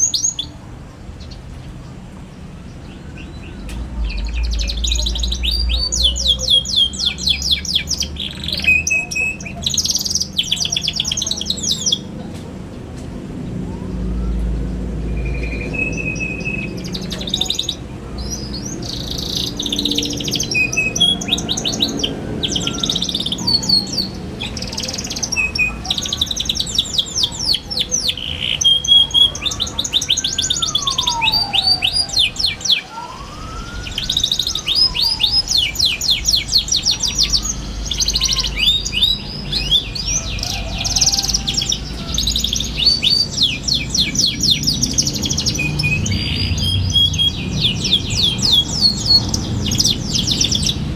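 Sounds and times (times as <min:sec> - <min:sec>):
canary singing in trills: 0:00.0 - 0:50.9.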